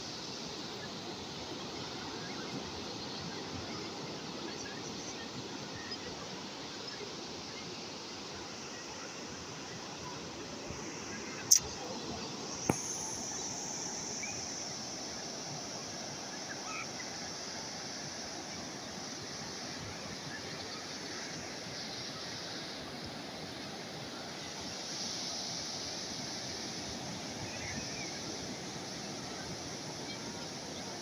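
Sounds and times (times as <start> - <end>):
sea waves washing ashore: 0.0 - 31.0.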